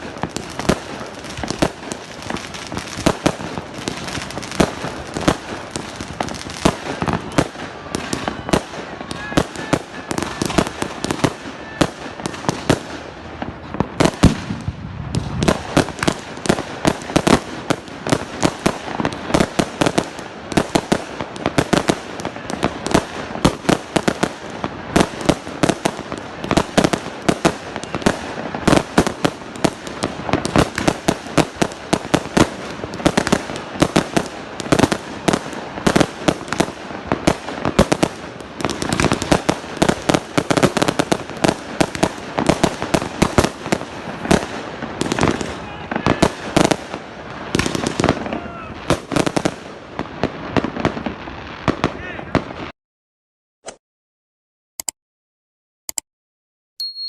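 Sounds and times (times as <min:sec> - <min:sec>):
fireworks bangs: 0:00.0 - 0:52.7.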